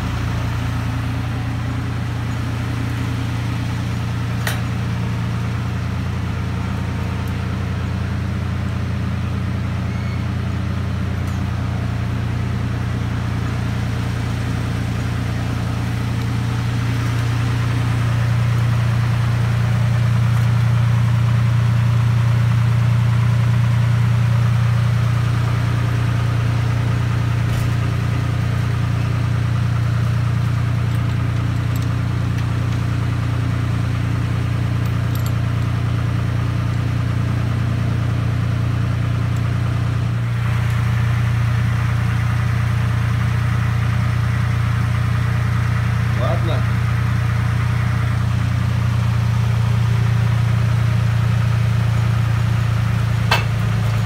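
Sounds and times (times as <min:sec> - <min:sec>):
van engine running: 0:00.0 - 0:54.0.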